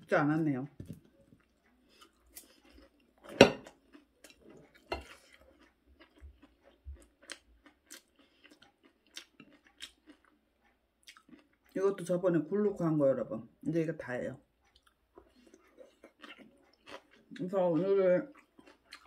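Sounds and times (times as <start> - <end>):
chewing food: 0.2 - 13.0, 13.6 - 19.0.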